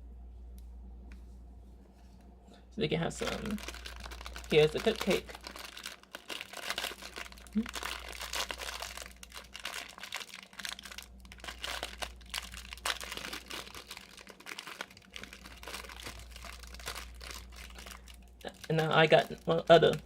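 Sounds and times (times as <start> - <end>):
packaging crinkling: 3.2 - 20.0.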